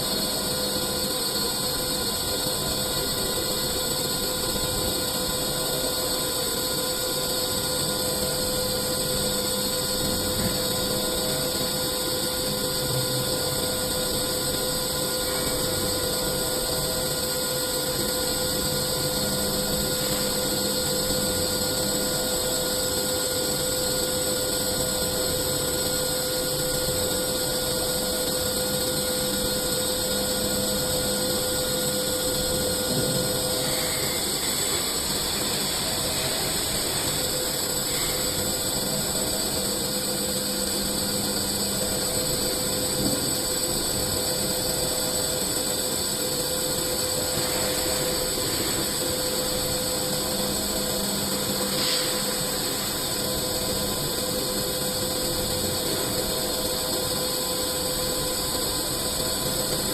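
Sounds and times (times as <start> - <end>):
lathe machining with whine: 0.0 - 59.9.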